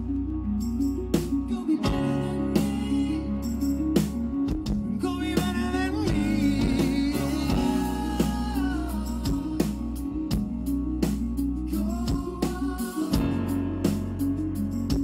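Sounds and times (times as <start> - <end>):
bass guitar: 0.0 - 15.0
drum kit beat: 1.0 - 15.0.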